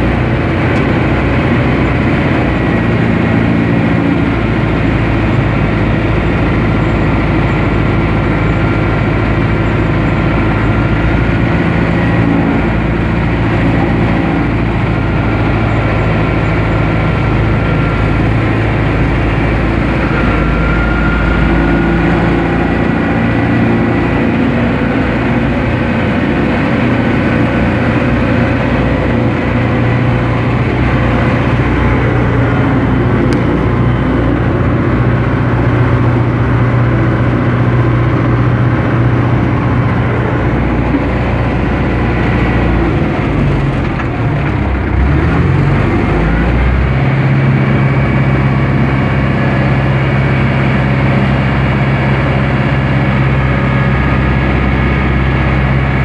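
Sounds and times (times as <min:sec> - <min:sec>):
faint whine: 0:00.0 - 0:56.0
tractor diesel engine running: 0:00.0 - 0:56.0.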